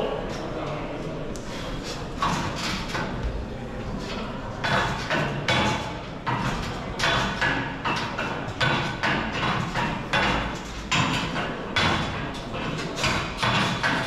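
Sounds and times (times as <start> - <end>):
knocks and clanks of apparatus: 2.1 - 3.4, 4.0 - 14.0.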